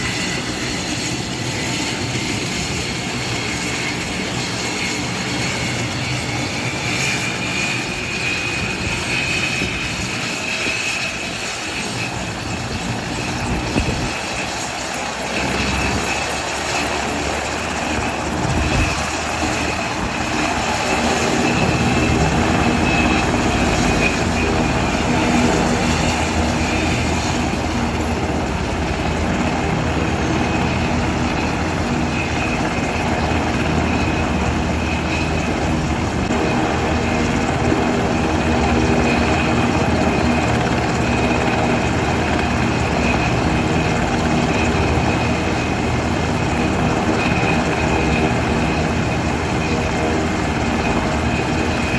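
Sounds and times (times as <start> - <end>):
helicopter turbine whine: 0.0 - 51.9.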